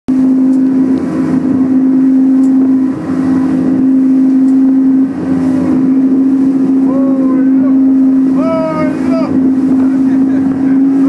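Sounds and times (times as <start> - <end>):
outboard engine drone: 0.1 - 11.0
water noise: 0.1 - 11.0
wind: 0.1 - 11.0.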